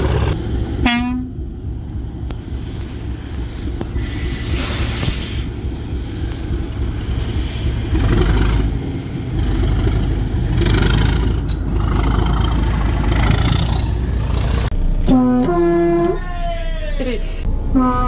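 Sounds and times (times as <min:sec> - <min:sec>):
rushing noise: 0:00.0 - 0:15.0
heavy vehicle engine rumbling: 0:00.0 - 0:18.0.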